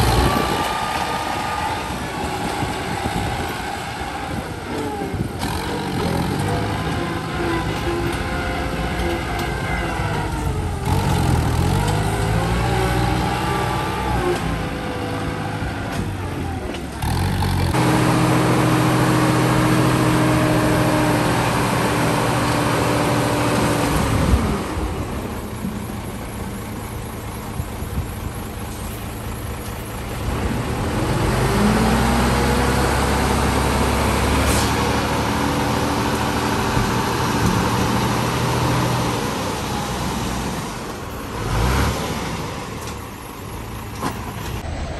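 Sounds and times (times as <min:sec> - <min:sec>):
dump truck engine high revs: 0:00.0 - 0:44.9
tractor engine revving: 0:00.0 - 0:44.9.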